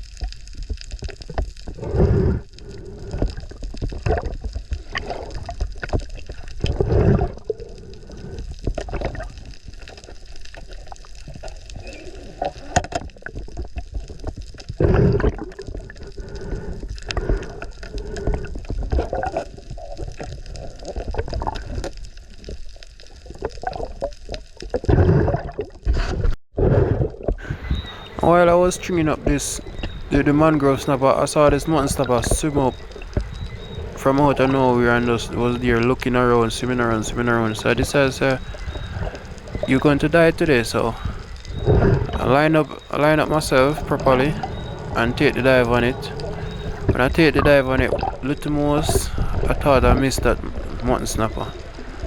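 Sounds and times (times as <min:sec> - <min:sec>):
water sloshing and gurgling: 0:00.0 - 0:52.0.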